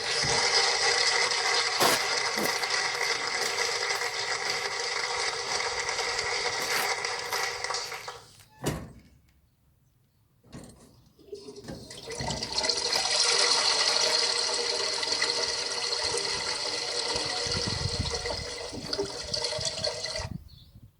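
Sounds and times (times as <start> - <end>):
toilet flush sound effect: 0.0 - 8.4, 11.2 - 20.3.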